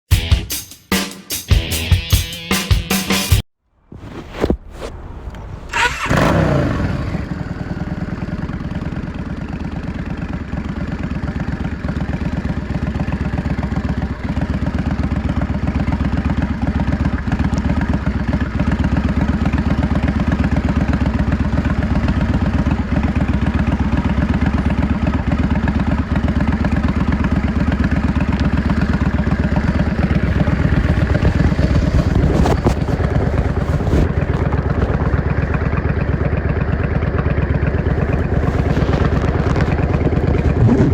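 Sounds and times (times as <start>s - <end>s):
motorcycle engine running: 5.7s - 40.9s.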